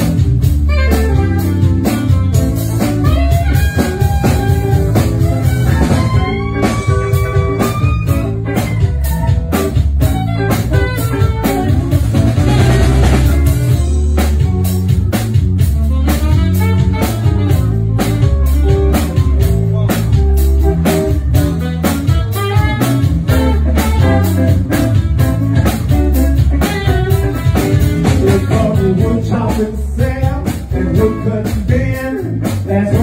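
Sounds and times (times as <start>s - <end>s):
saxophone playing: 0.0s - 28.9s
drums and bass: 0.0s - 33.0s.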